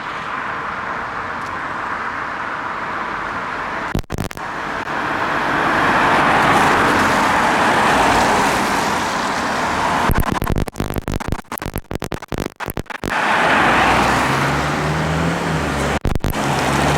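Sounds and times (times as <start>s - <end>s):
passing vehicles rushing: 0.0s - 10.2s, 13.1s - 16.9s.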